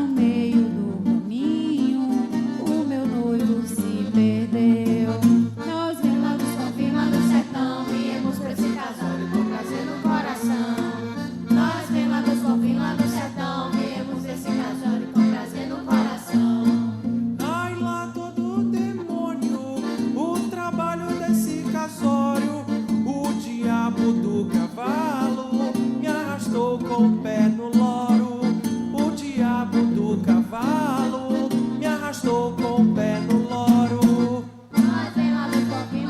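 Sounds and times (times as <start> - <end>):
live band music with guitar: 0.0 - 36.0.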